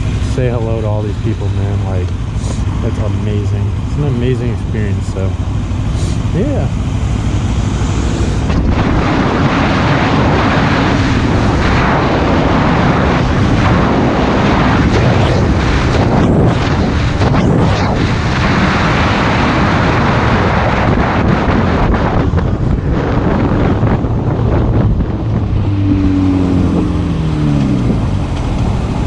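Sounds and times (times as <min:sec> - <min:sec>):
motorcycle engine drone: 0:00.0 - 0:29.0
wind roaring on microphone: 0:00.0 - 0:29.0.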